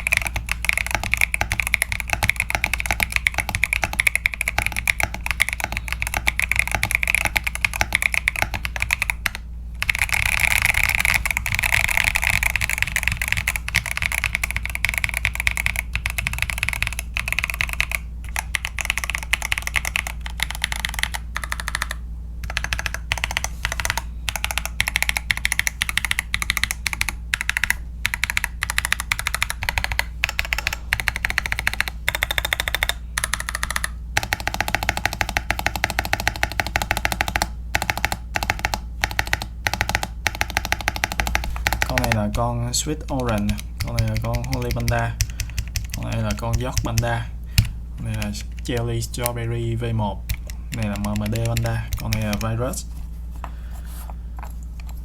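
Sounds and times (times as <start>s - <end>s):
fast mechanical keyboard typing: 0.0s - 52.8s.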